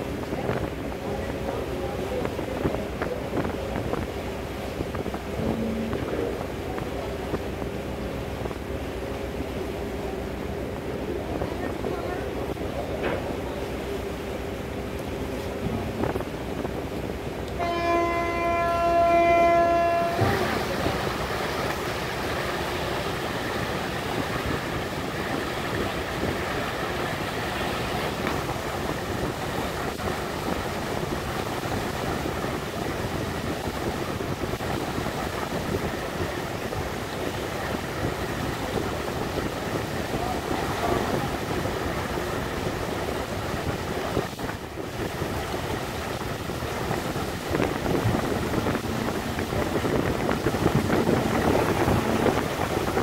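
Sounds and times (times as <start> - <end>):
wind on microphone: 0.0 - 8.6, 15.2 - 53.0
ship running din: 0.0 - 53.0
water rushing past: 0.0 - 53.0.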